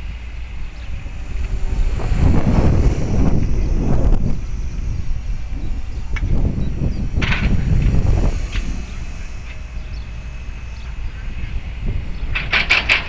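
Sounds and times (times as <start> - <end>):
model helicopter whine: 0.0 - 13.0
wind buffeting microphone: 0.0 - 13.0.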